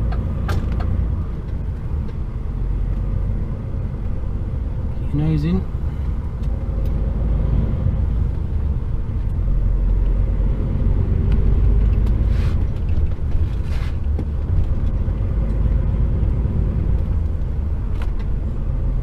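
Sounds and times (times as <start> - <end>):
diesel engine low rumble: 0.0 - 19.0.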